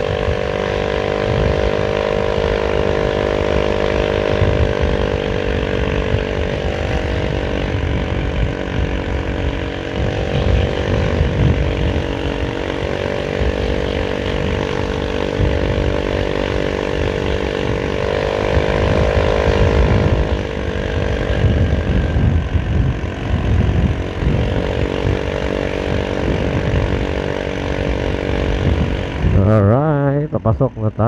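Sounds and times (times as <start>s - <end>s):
motorcycle engine running: 0.0s - 31.0s
wind rumbling on microphone: 0.0s - 31.0s.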